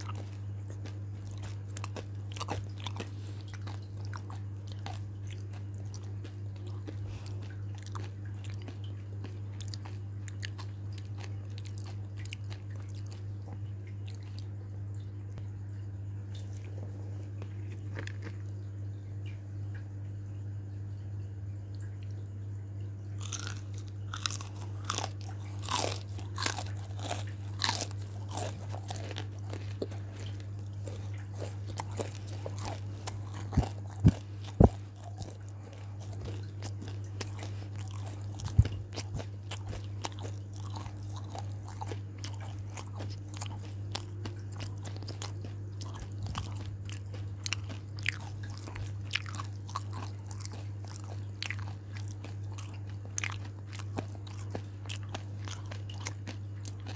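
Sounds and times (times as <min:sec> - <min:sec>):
chewing crispy food: 0:00.0 - 0:19.9, 0:21.7 - 0:56.9
low steady hum: 0:00.0 - 0:56.9.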